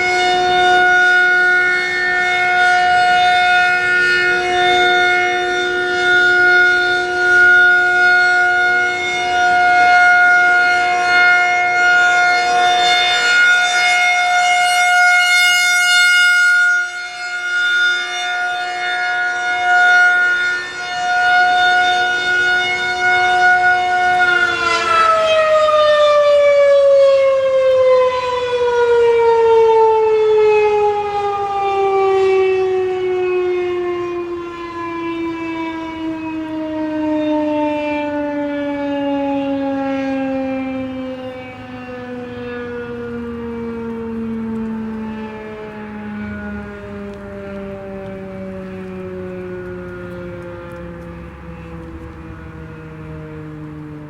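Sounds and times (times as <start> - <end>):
rotating warning siren: 0.0 - 54.0.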